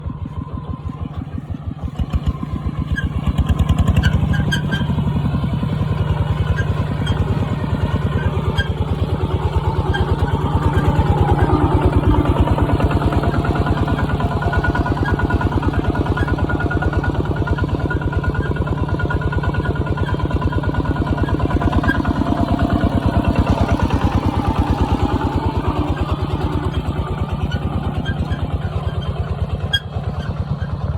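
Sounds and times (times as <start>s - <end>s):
diesel tractor engine chugging: 0.0s - 30.9s.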